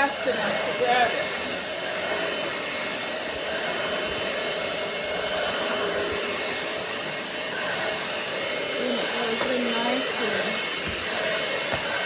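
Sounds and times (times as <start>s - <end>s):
stick vacuum running: 0.0s - 12.0s.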